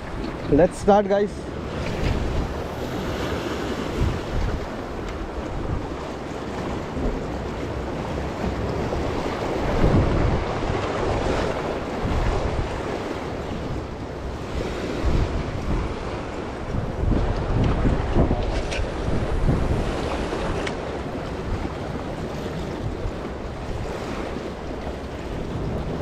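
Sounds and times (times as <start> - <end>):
sea waves breaking on rocks: 0.0 - 26.0
wind buffeting microphone: 0.0 - 26.0.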